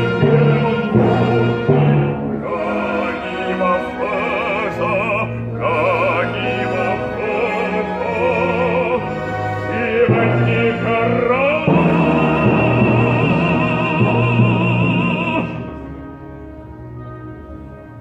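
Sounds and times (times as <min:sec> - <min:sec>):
operatic voice singing: 0:00.0 - 0:15.8
orchestra holding low notes: 0:00.0 - 0:18.0.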